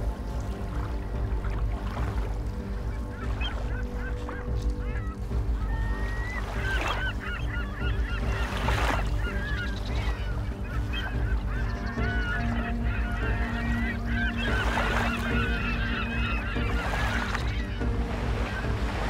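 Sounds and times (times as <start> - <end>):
flock of birds calling: 0.0 - 19.0.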